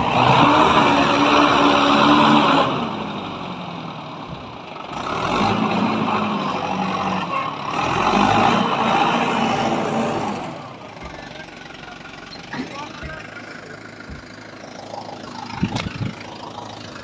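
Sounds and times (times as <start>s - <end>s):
tractor diesel engine running hard: 0.0s - 17.0s.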